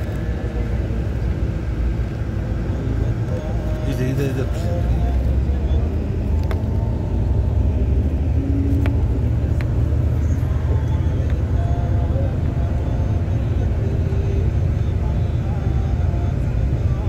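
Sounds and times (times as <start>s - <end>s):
vehicle engine and tyres rumbling: 0.0s - 17.0s.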